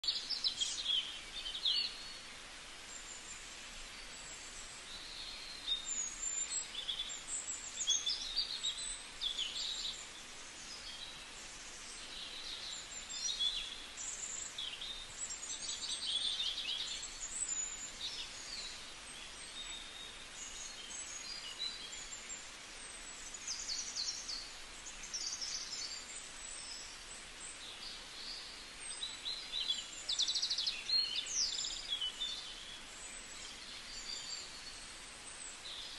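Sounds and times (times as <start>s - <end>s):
small birds chirping and trilling: 0.0s - 35.9s
steady background hiss: 0.0s - 35.9s.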